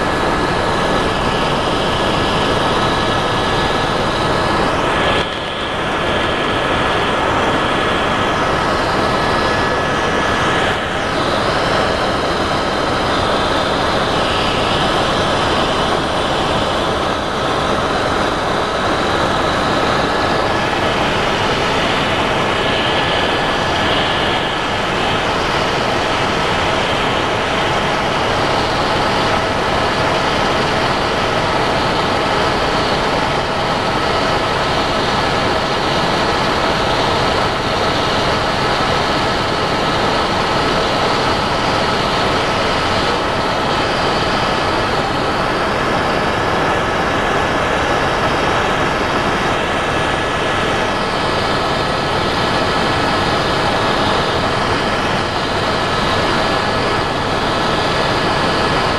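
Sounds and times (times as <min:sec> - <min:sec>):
helicopter rotor and turbine rush: 0:00.0 - 0:58.9.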